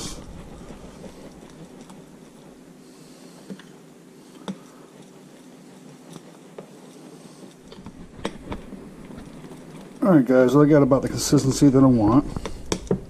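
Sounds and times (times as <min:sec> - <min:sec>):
utensil stirring batter in bowl: 0:00.0 - 0:13.0.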